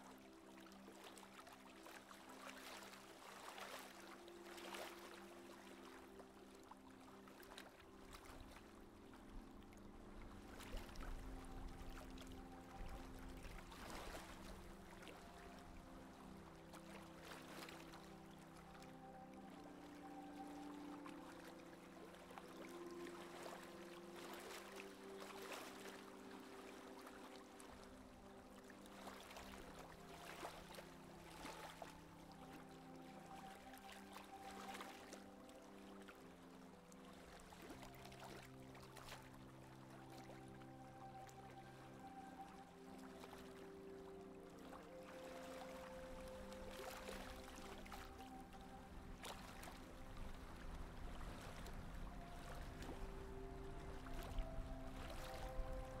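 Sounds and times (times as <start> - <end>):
soft low held tones: 0.0 - 56.0
water rushing along a hull: 0.0 - 56.0.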